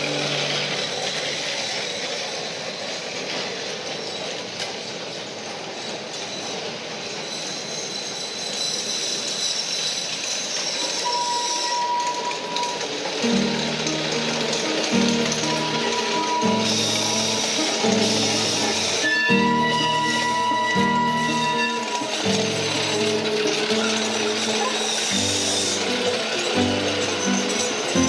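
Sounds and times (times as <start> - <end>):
high wheel squeal: 0.0 - 28.0
steel wheels rumbling on track: 0.0 - 28.0.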